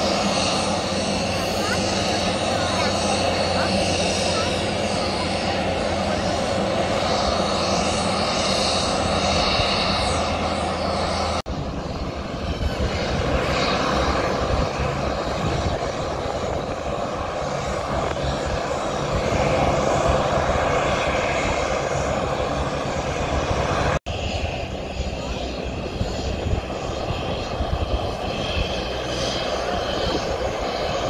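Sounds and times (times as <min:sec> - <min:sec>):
light aircraft engines droning: 0:00.0 - 0:31.0.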